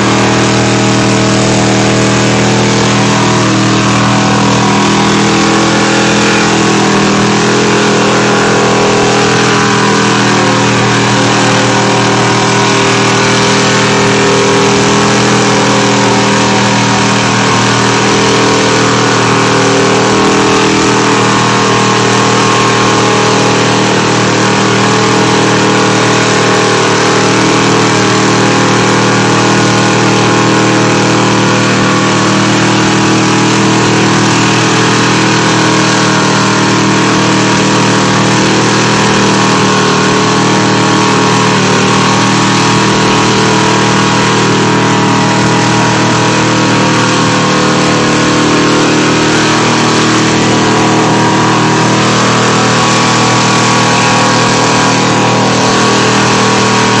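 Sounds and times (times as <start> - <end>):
pickup truck engine running: 0.0 - 57.0.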